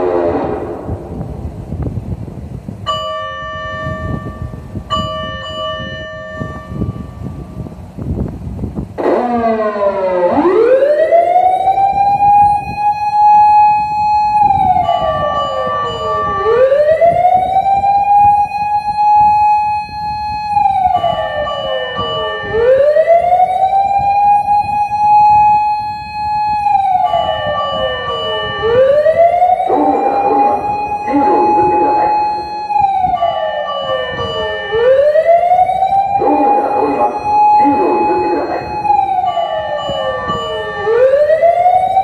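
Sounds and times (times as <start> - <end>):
wailing electronic siren: 0.0 - 1.7, 2.8 - 8.0, 9.0 - 42.0.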